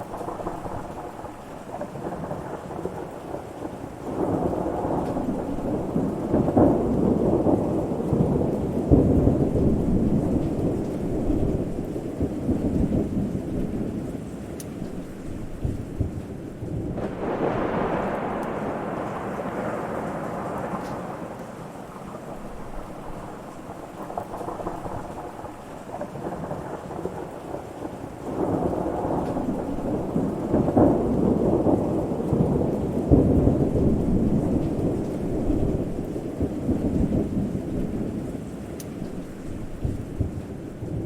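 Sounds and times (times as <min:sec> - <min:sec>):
steady rain: 0:00.0 - 0:41.0
thunder rumbling: 0:00.0 - 0:41.0.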